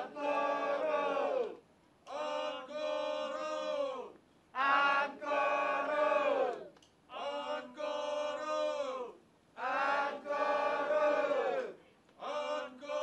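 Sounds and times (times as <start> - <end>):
group of voices chanting: 0.0 - 9.0, 9.6 - 13.0.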